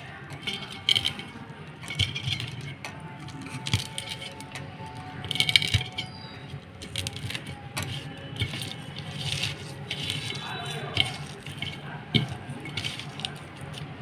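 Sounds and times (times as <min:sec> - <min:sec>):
clicks and scrapes on steel: 0:00.0 - 0:14.0.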